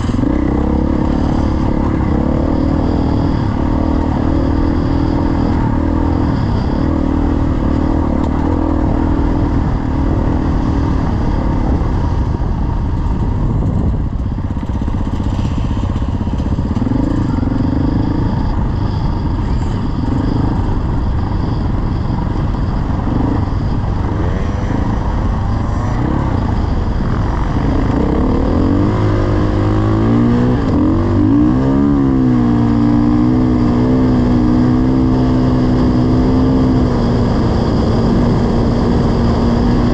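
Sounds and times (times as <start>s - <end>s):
constant rushing noise: 0.0s - 39.9s
dirt bike engine running: 0.0s - 39.9s.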